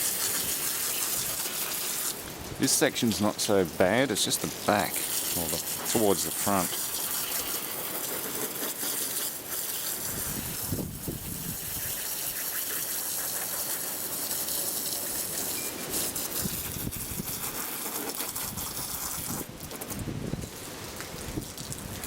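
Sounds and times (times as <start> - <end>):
water jet spraying carpet: 0.0 - 21.7.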